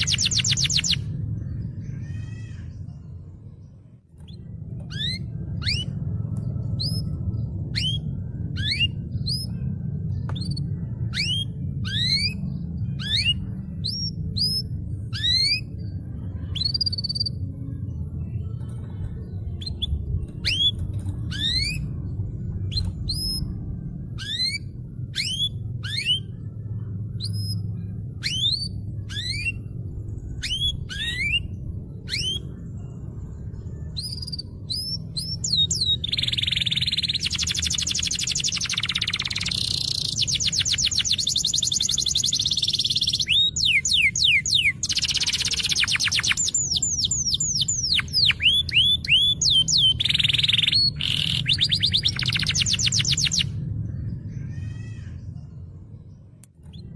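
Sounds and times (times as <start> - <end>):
canary singing: 0.0 - 3.2, 4.2 - 17.5, 19.4 - 55.3
low hum: 0.0 - 56.9.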